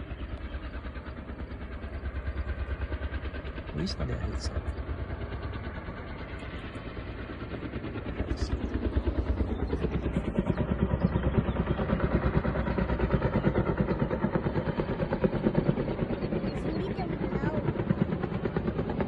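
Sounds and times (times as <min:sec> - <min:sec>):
helicopter engine noise: 0:00.0 - 0:19.0
helicopter rotor beating: 0:00.0 - 0:19.0.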